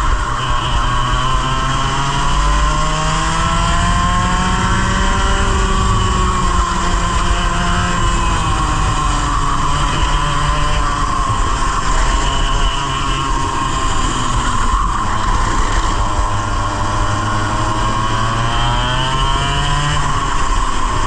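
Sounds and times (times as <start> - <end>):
kart engine revving: 0.0 - 21.0
tyre and wind noise: 0.0 - 21.0.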